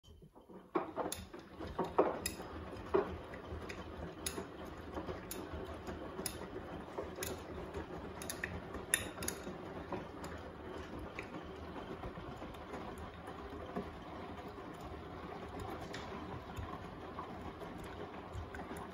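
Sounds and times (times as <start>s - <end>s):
washing machine tumbling: 0.1s - 18.9s.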